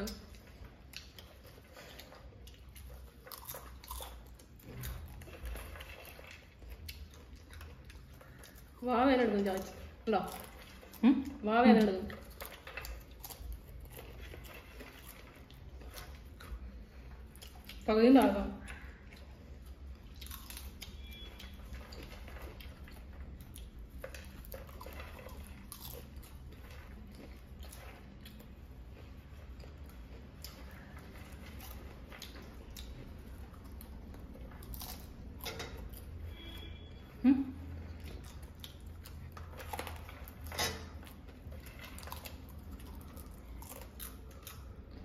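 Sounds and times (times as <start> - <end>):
people crunching popcorn: 0.0 - 45.0.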